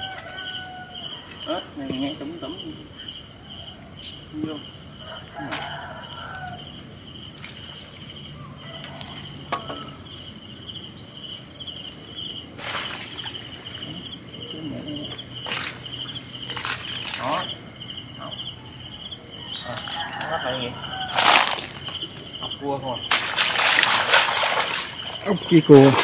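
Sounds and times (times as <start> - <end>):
insect fast pulsing trill: 0.0 - 26.0
insects chirping: 0.0 - 26.0.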